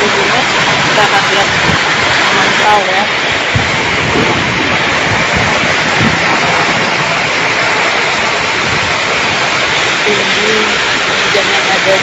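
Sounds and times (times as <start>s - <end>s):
heavy rain pouring on street: 0.0s - 12.0s.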